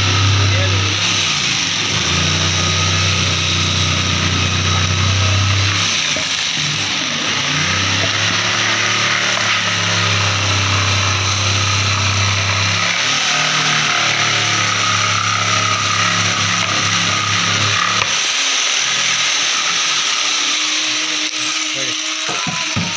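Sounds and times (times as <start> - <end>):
woodworking machinery running: 0.0 - 22.9.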